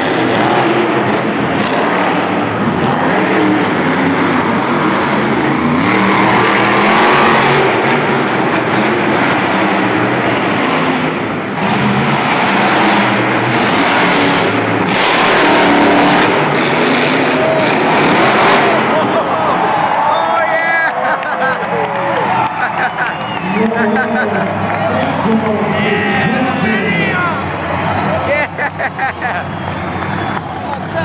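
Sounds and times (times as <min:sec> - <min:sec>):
truck engines revving loudly: 0:00.0 - 0:31.0.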